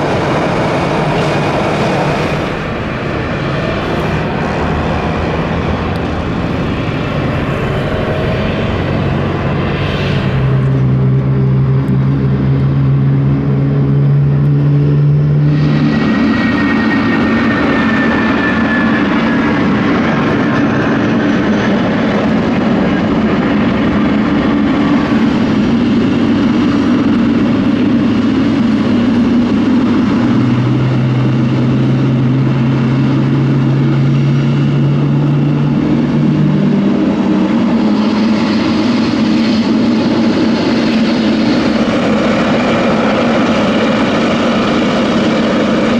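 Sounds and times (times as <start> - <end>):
high falling whine: 0.0 - 45.9
jet engines roaring: 0.0 - 45.9.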